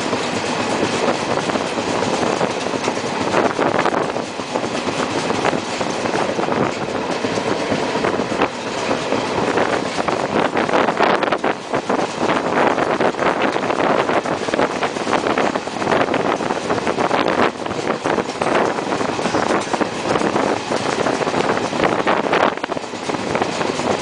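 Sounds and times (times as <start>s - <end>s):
train wheel and air rush: 0.0s - 24.0s
wheels clacking over rail joints: 0.0s - 24.0s.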